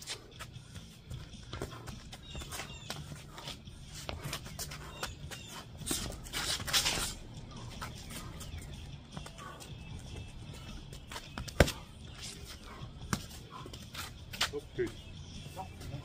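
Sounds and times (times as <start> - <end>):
shoes scuffing on concrete: 0.0 - 16.0.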